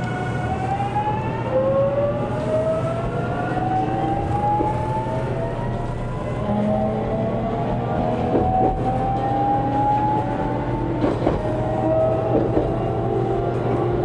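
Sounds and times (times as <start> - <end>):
train inverter and motors whining: 0.0 - 14.0.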